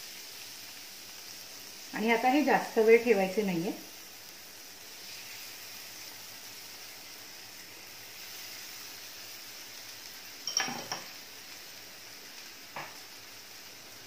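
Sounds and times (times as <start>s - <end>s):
butter sizzling in a pan: 0.0s - 14.0s.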